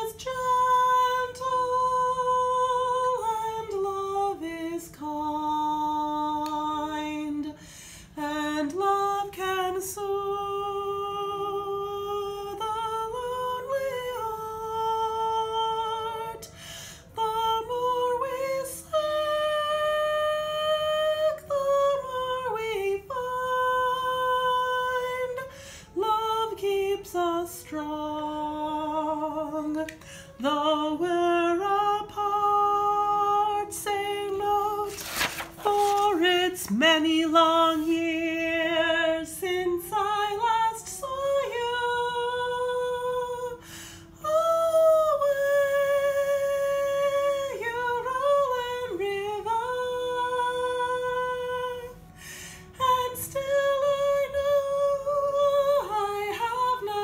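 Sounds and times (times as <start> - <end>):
woman singing slow melody: 0.0 - 57.0.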